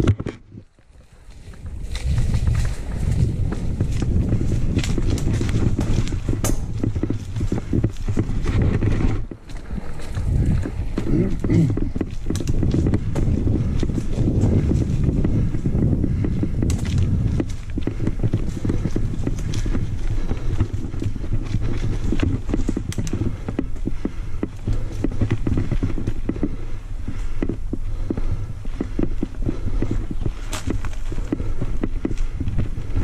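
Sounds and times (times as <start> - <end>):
bike tyres rumbling on dirt: 0.0 - 33.0.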